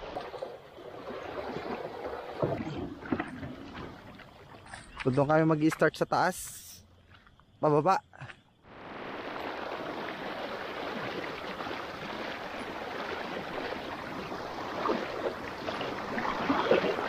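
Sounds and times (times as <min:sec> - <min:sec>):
water splashing and rushing: 0:00.0 - 0:05.9, 0:08.6 - 0:17.0
legs wading through water: 0:00.0 - 0:07.2, 0:08.7 - 0:17.0.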